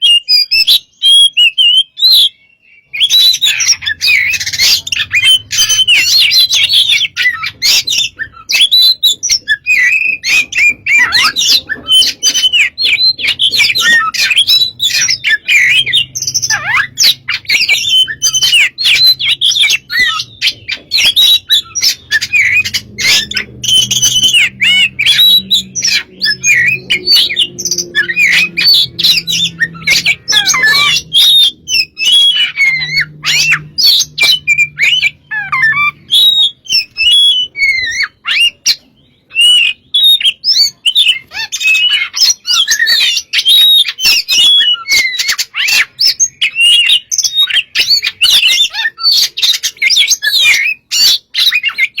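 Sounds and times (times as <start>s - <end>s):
songbird whistling and chattering: 0.0s - 52.0s.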